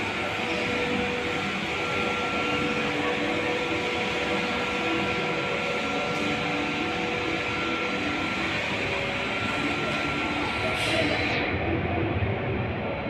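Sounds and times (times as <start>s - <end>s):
rush of air from fans: 0.0s - 13.0s.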